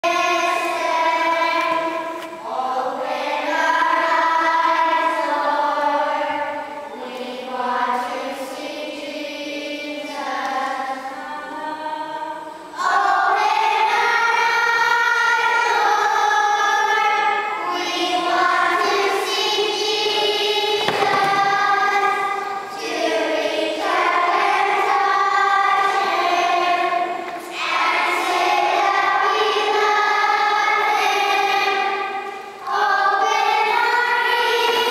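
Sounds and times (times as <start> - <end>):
children's choir singing: 0.0 - 34.9.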